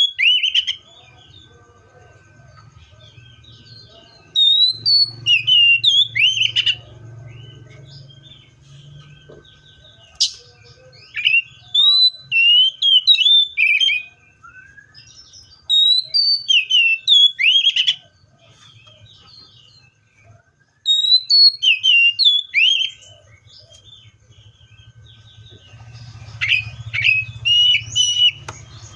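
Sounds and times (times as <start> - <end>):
bird singing whistled notes: 0.0 - 1.6, 2.2 - 28.9.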